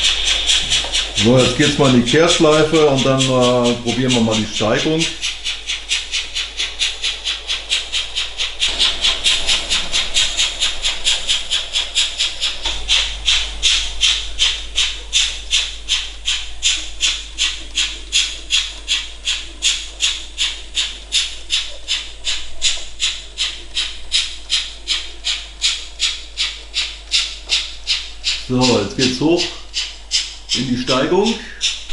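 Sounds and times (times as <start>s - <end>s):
steam locomotive chuffing: 0.0s - 31.9s.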